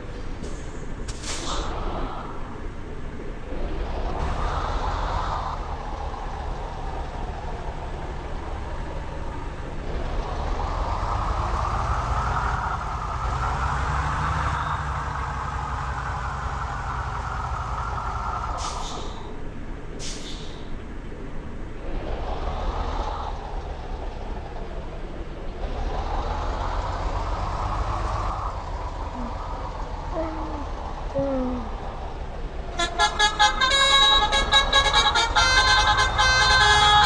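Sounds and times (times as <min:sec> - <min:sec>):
heavy vehicles passing: 0:00.0 - 0:37.0.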